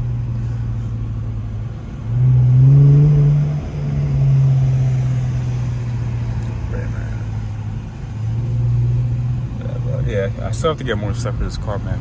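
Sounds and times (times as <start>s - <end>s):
car exhaust drone: 0.0s - 12.0s.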